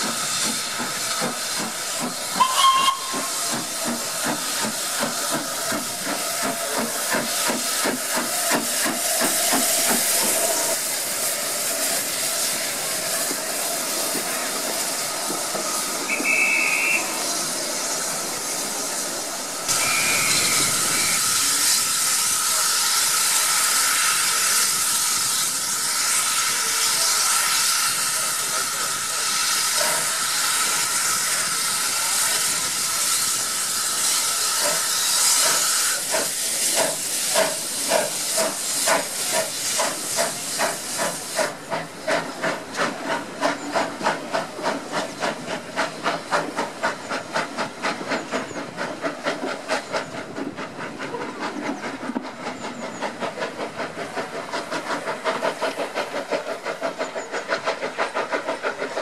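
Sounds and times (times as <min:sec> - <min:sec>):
hiss of escaping steam: 0:00.0 - 0:59.0
steam locomotive chuffing: 0:00.0 - 0:59.0.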